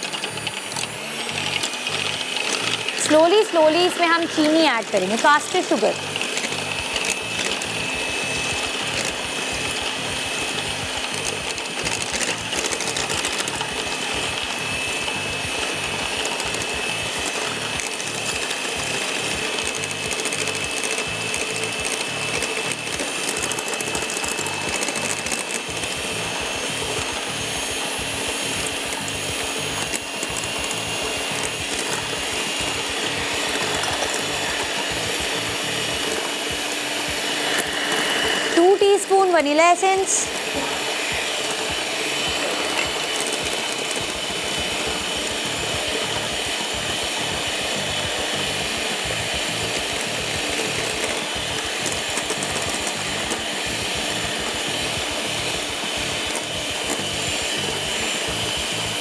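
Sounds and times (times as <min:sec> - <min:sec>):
electric hand mixer whisking: 0:00.0 - 0:59.0.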